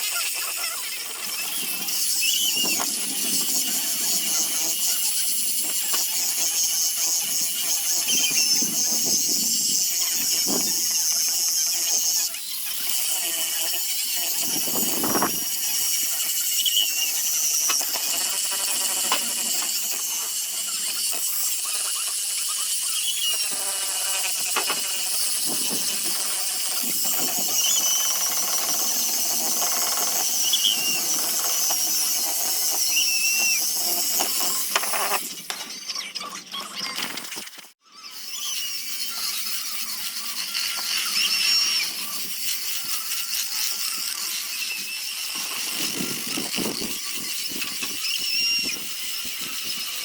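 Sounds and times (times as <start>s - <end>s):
sandpaper sanding wood: 0.0s - 35.3s, 38.2s - 50.0s
high squeaks: 0.0s - 50.0s.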